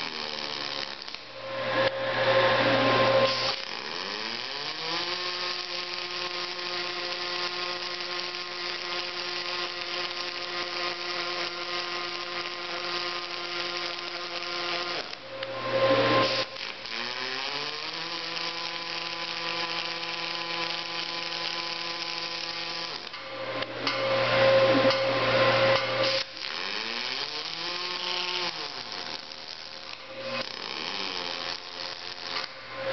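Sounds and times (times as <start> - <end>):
electric motor whine: 0.0 - 23.2, 24.3 - 32.9.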